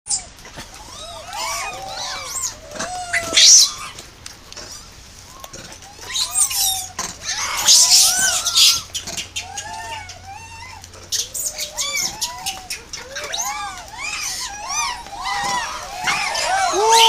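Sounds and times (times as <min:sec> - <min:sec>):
macaques shrill screams: 0:00.1 - 0:04.0, 0:05.3 - 0:17.0
macaques cooing and squeaking: 0:00.1 - 0:17.0.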